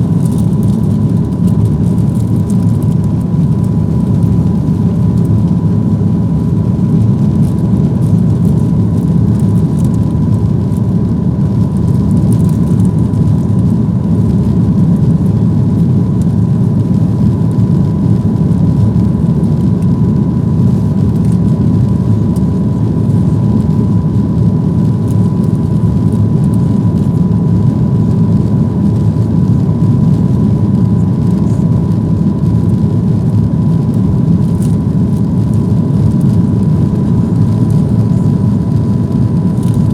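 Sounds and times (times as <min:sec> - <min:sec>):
jet engines in aircraft cabin: 0:00.0 - 0:39.9.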